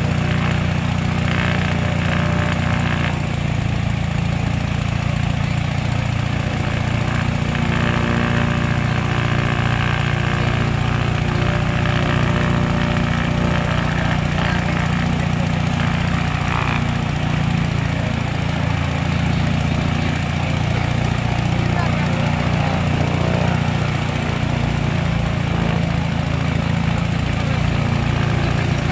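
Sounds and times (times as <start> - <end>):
piston aircraft engines running: 0.0 - 28.9.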